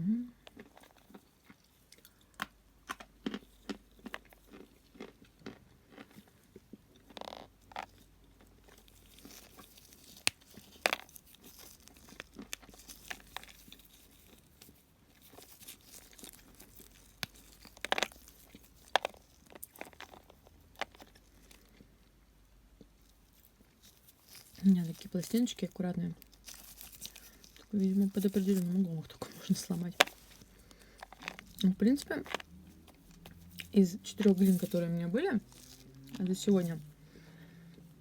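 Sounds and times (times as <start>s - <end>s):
dry clay being chewed: 0.3s - 38.0s.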